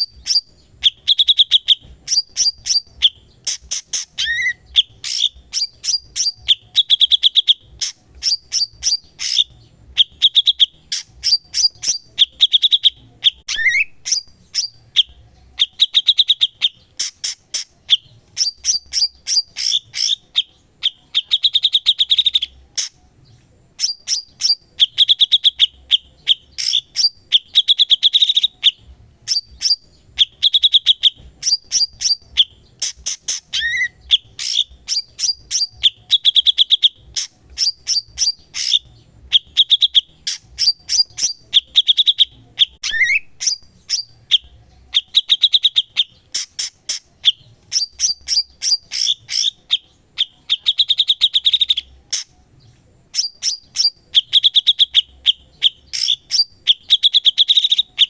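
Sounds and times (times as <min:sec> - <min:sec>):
bird singing trills and chips: 0:00.0 - 0:58.0.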